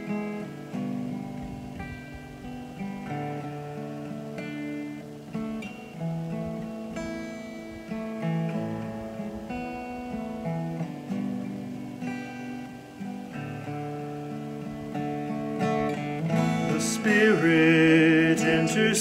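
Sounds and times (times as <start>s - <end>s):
acoustic guitar slow chords: 0.0s - 19.0s.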